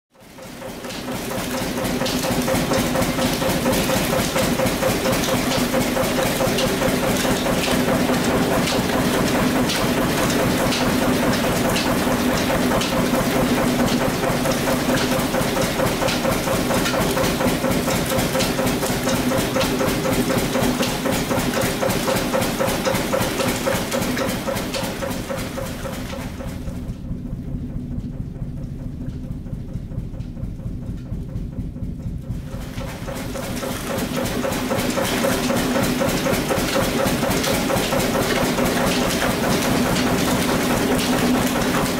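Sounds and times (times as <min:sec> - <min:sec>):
sugarcane mill engine drone: 0:00.2 - 0:41.9.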